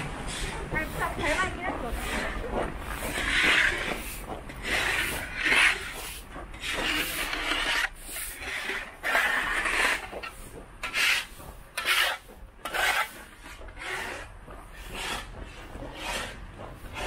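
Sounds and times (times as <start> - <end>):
snow shovels scraping pavement: 0.0 - 17.0.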